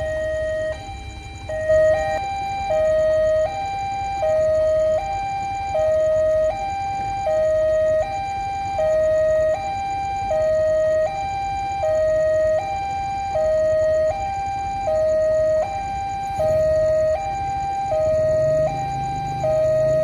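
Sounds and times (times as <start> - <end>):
two-tone level crossing alarm: 0.0 - 20.0.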